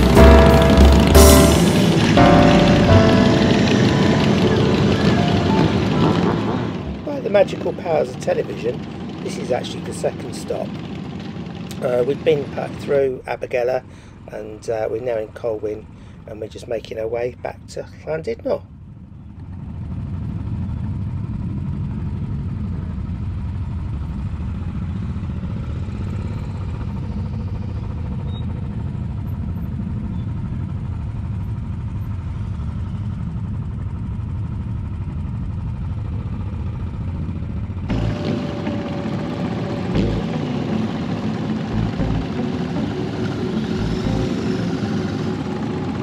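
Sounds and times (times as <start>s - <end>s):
motorcycle engines idling: 3.2s - 13.0s, 18.7s - 46.0s.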